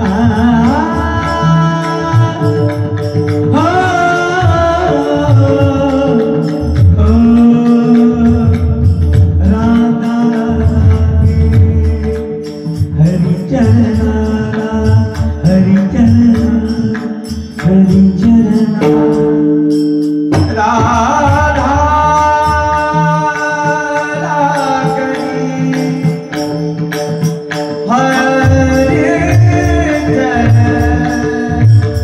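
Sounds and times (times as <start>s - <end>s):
men singing: 0.0s - 19.2s, 20.4s - 26.4s, 27.9s - 32.0s
hand cymbals jingling: 0.0s - 32.0s.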